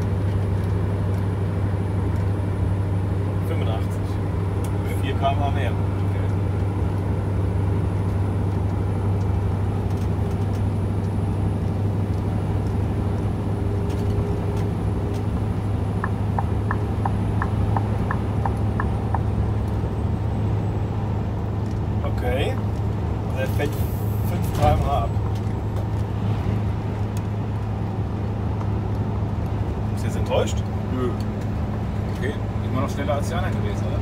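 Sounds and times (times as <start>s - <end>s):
diesel truck engine under load: 0.0s - 34.0s.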